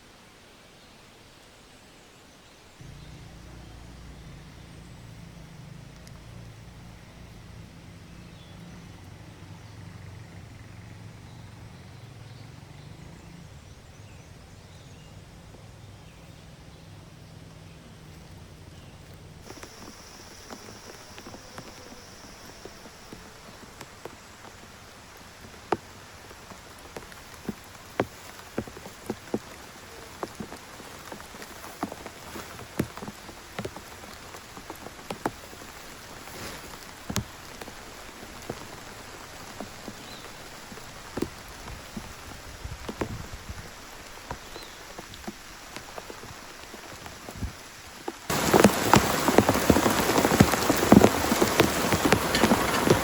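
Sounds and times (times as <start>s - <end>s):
rain drops striking a surface: 2.8s - 11.7s, 16.9s - 53.0s.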